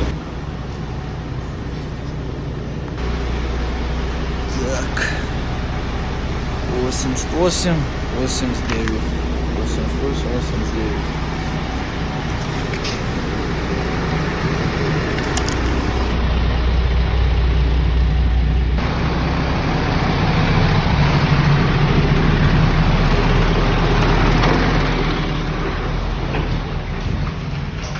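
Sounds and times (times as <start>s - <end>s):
road noise: 0.0s - 27.9s
vehicle engine running: 0.0s - 27.9s.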